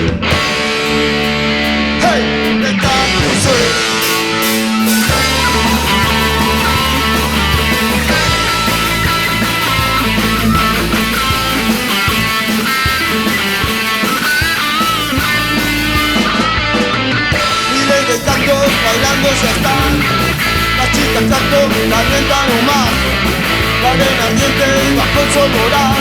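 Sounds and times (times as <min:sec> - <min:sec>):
guitar melody with bent notes: 0:00.0 - 0:26.0
rock band playing: 0:00.0 - 0:26.0.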